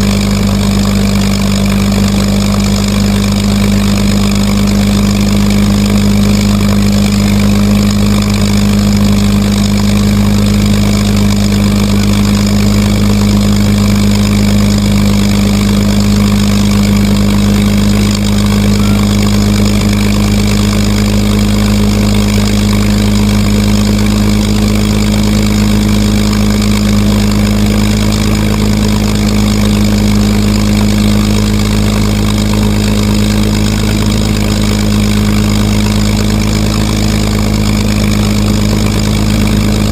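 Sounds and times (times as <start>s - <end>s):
aircraft piston engine running: 0.0s - 39.9s.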